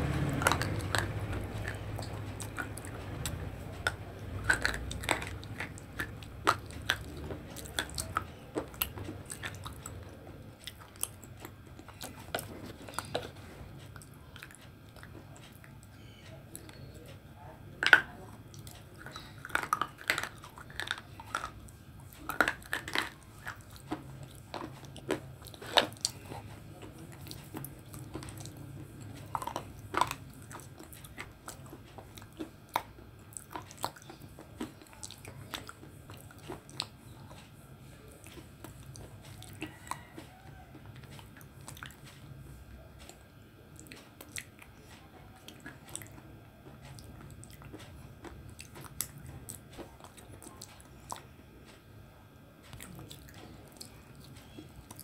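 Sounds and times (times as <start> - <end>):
chewing: 0.0 - 51.9, 52.6 - 55.0.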